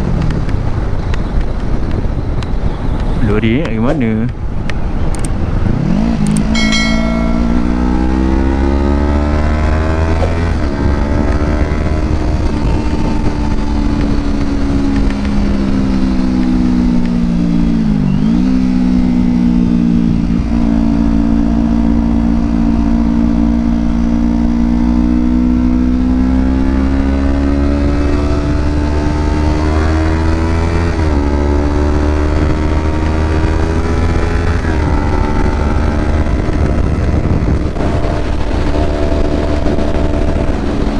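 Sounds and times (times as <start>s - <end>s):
motorcycle engine accelerating: 4.8s - 40.9s.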